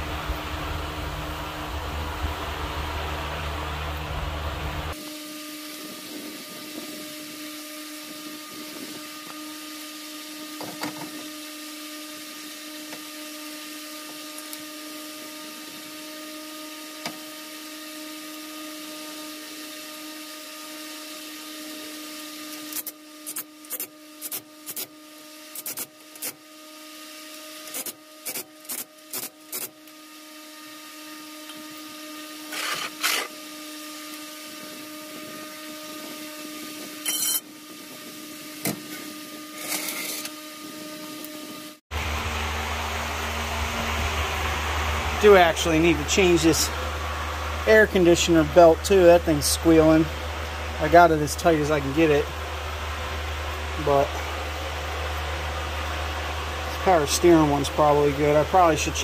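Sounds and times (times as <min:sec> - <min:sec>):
steady electric hum: 0:00.0 - 0:59.0.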